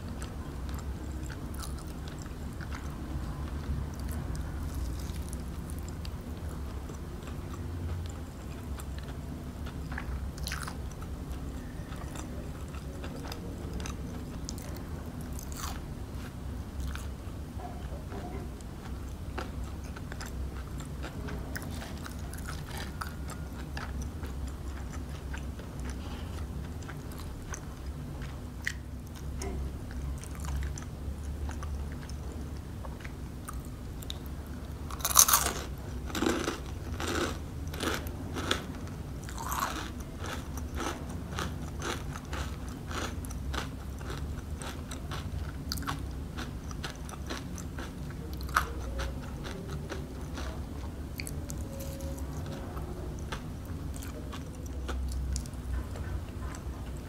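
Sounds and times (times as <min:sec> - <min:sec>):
chewing crispy fried chicken: 0:00.0 - 0:57.0.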